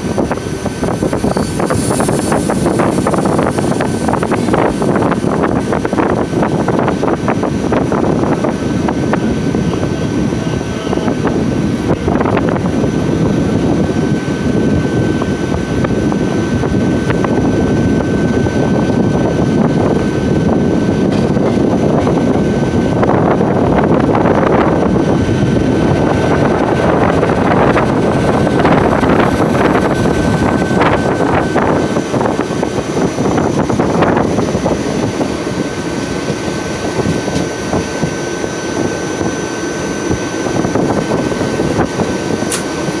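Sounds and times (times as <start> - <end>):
train rumbling: 0.0 - 43.0.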